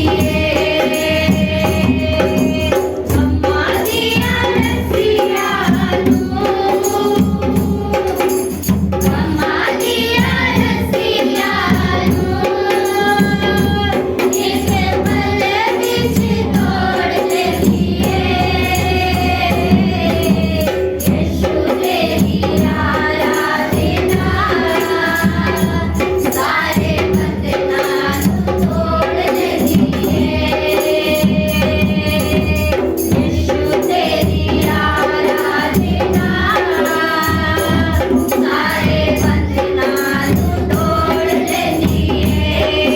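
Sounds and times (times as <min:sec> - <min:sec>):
group singing worship song: 0:00.0 - 0:42.9
steady percussion beat: 0:00.0 - 0:42.9.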